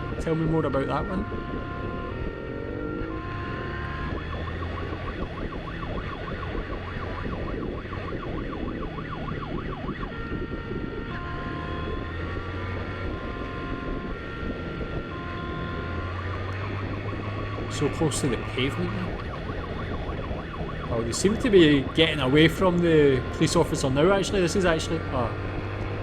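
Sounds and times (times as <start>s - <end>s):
motorcycle engine and road noise: 0.0s - 26.0s
police siren: 0.0s - 26.0s.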